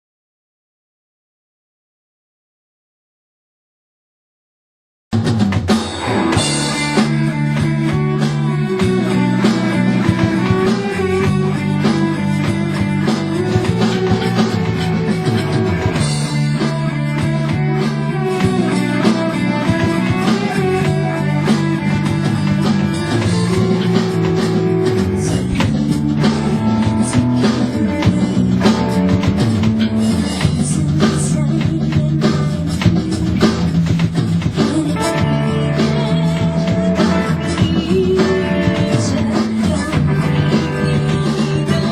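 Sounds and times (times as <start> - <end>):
rock band playing live: 5.2 - 41.9.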